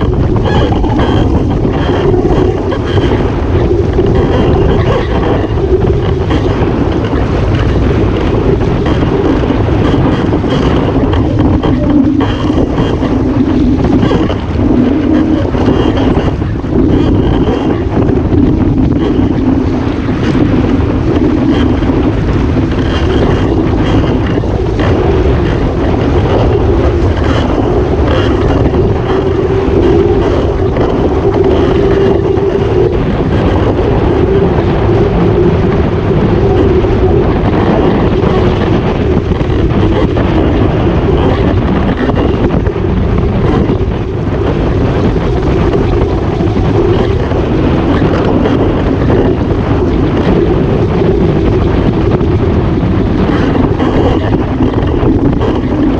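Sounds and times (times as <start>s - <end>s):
wavering hum: 0.0s - 55.9s
wind buffeting microphone: 0.0s - 55.9s.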